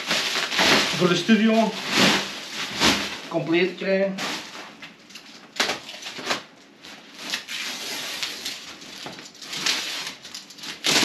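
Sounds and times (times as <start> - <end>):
foam rustling and crinkling: 0.0 - 11.0.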